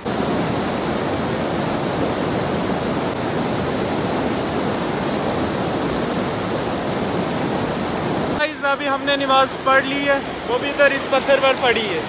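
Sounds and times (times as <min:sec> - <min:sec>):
stream flowing over boulders: 0:00.0 - 0:12.0.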